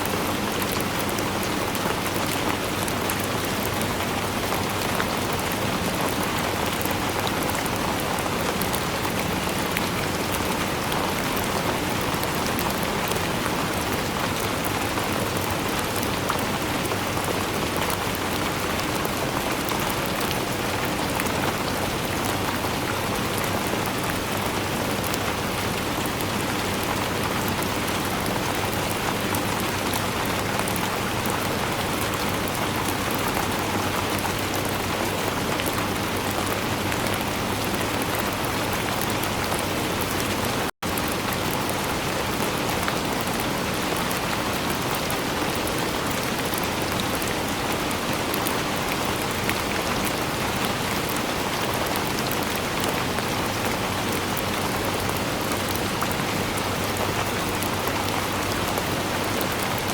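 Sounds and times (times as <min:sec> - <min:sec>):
steady dense rainfall: 0:00.0 - 0:59.9.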